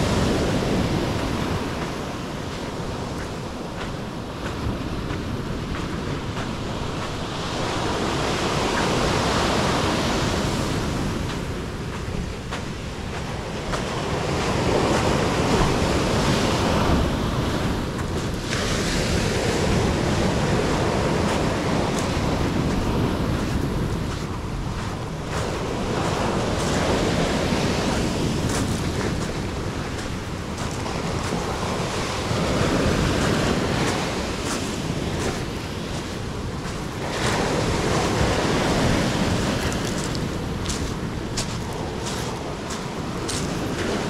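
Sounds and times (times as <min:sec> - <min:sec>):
sea waves breaking on beach: 0:00.0 - 0:44.0
wind rumbling on microphone: 0:00.0 - 0:44.0.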